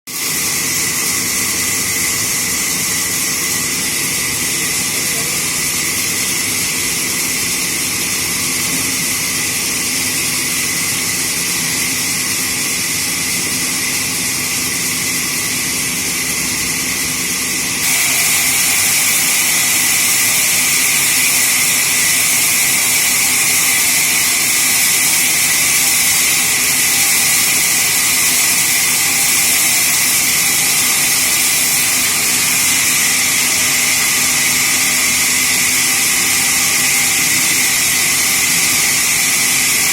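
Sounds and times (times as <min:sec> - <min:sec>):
sawmill saw whining: 0:00.1 - 0:39.9.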